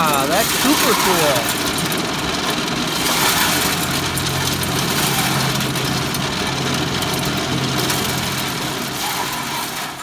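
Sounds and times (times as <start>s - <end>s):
corn sheller rattling: 0.0s - 10.0s
engine humming: 0.0s - 10.0s.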